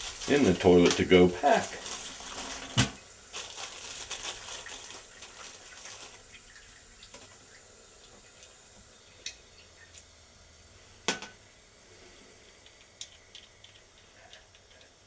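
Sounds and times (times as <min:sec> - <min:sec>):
water running in toilet: 0:00.0 - 0:15.0.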